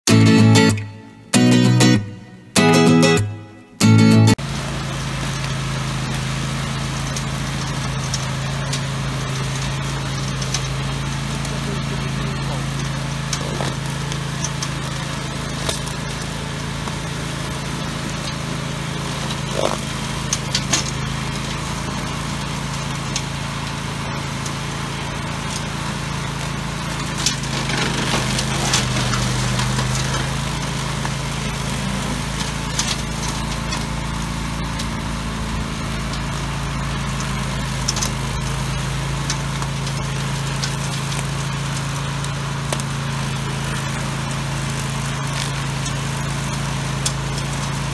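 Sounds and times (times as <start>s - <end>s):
ride-on mower running: 0.0s - 47.9s.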